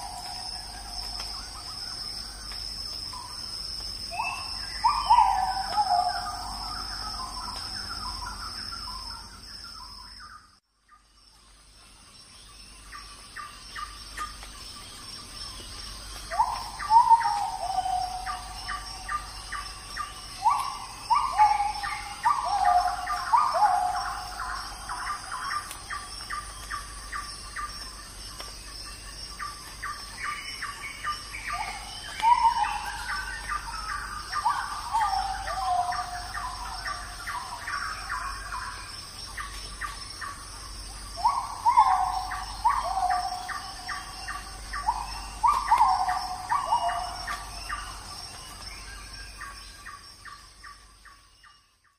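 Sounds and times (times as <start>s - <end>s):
high insect drone: 0.0s - 51.9s.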